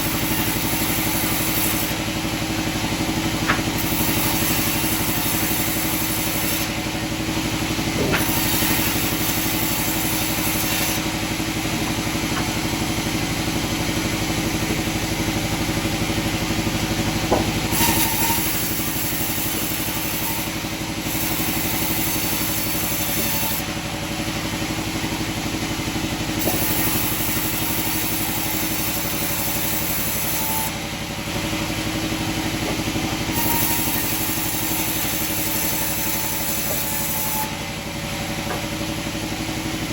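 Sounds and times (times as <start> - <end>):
sawmill machinery motor hum: 0.0 - 39.9.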